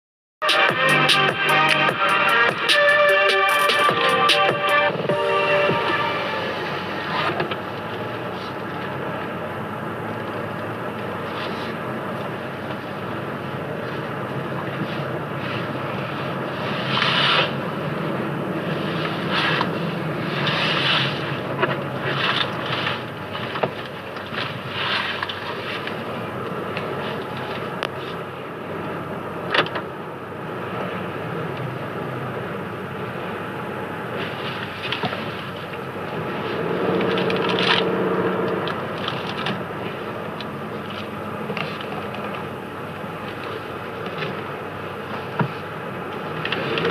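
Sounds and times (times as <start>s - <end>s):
road noise: 0.4s - 46.9s
car engine from inside cabin: 0.8s - 46.9s.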